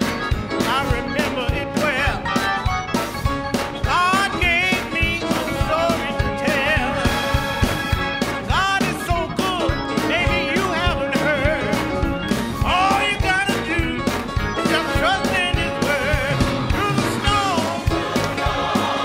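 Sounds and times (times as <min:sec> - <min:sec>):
live band playing: 0:00.0 - 0:19.0
steady drum beat: 0:00.0 - 0:19.0.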